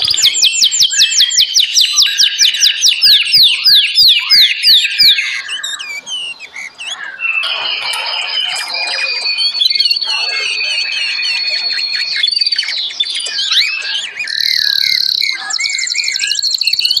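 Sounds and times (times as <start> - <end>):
songbirds singing and calling: 0.0 - 17.0.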